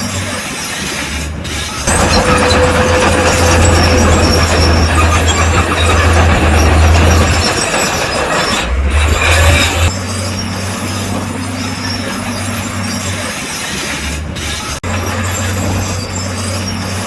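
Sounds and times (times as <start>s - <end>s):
metallic grinding of steel tracks: 0.0s - 17.0s
diesel engine drone: 1.1s - 17.0s.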